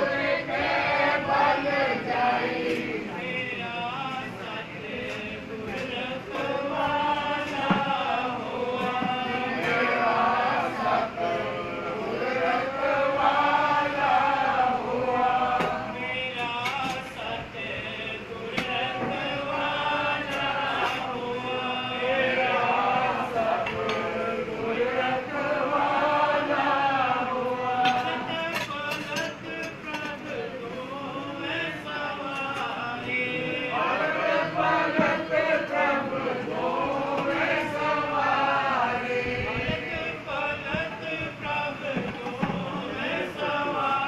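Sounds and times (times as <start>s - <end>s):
men chanting in unison: 0.0s - 44.0s.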